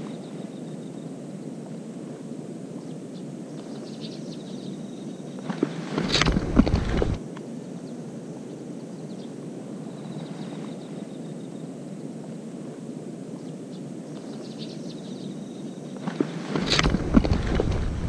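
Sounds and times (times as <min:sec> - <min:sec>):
low outdoor hiss: 0:00.0 - 0:18.0.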